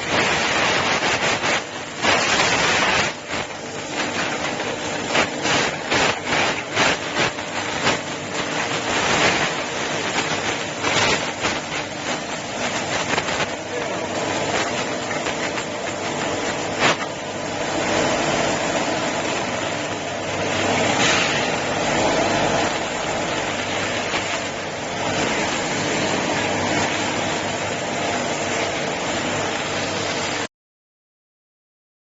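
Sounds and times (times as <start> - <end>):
sanding machine running: 0.0 - 30.5.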